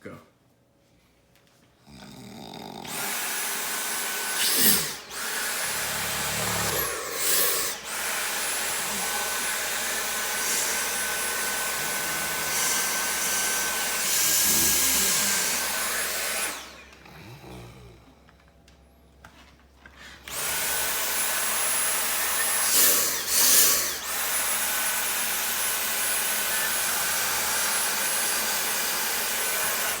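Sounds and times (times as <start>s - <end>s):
electric motor whining: 2.8s - 17.2s, 20.2s - 30.0s.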